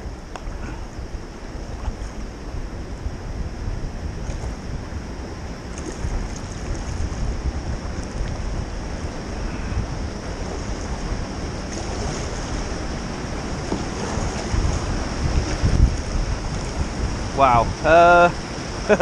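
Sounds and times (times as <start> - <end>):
water rushing over weir: 0.0 - 19.0
wind buffeting microphone: 0.0 - 19.0.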